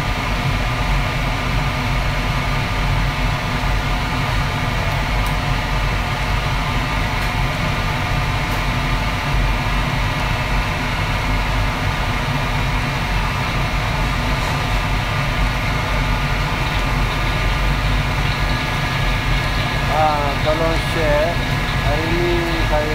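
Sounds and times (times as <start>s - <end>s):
gas wok range and extraction hood: 0.0s - 22.9s.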